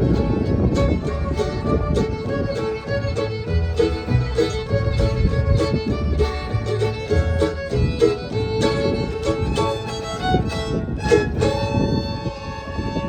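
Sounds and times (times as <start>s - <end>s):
fiddle playing bluegrass: 0.0s - 13.0s
strummed guitar: 0.0s - 13.0s.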